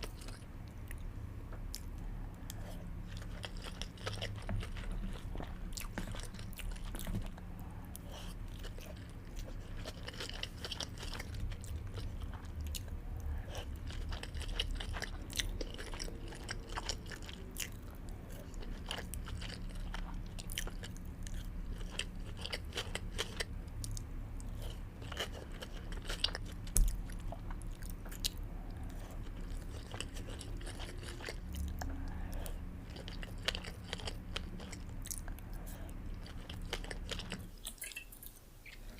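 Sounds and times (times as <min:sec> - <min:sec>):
faint low hum: 0:00.0 - 0:38.9
chewing and biting: 0:01.7 - 0:38.0.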